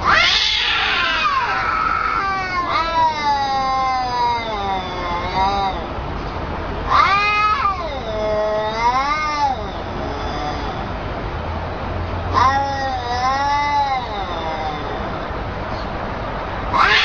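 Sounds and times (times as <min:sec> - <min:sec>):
cats yowling: 0:00.0 - 0:06.0, 0:06.9 - 0:11.0, 0:12.3 - 0:15.8, 0:16.7 - 0:17.0.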